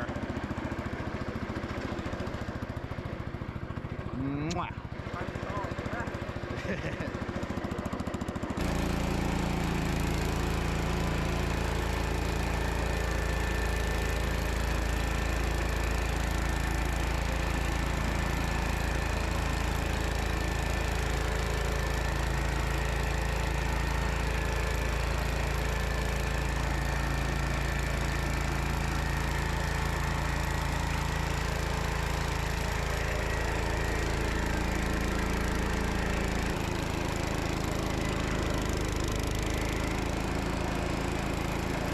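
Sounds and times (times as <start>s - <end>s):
tractor engine running under load: 0.0s - 41.9s.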